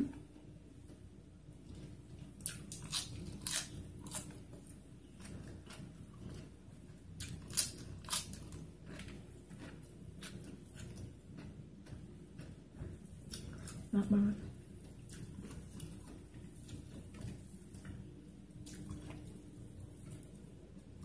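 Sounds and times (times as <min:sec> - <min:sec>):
person chewing food: 0:00.7 - 0:21.0.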